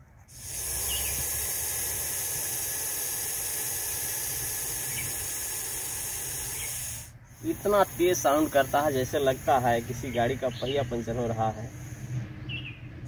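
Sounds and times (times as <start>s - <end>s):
snake hissing: 0.0s - 12.4s.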